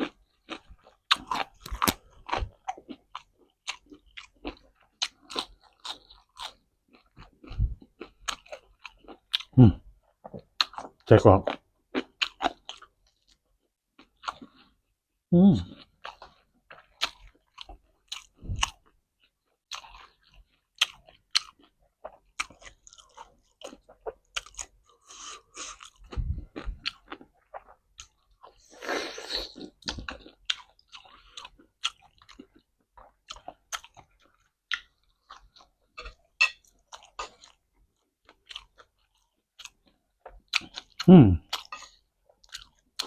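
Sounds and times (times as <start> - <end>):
person chewing crunchy food: 0.0 - 14.9, 15.6 - 43.0.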